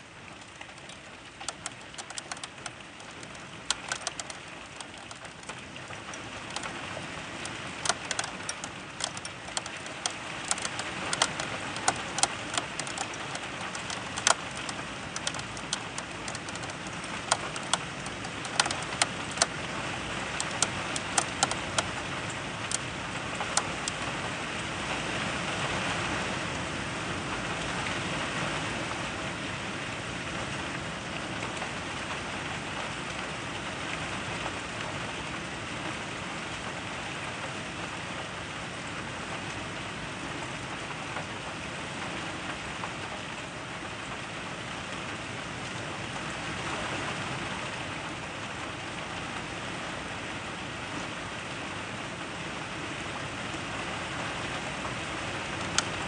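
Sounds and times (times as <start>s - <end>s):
rain falling: 0.0s - 56.0s
raindrops ticking nearby: 0.0s - 56.0s.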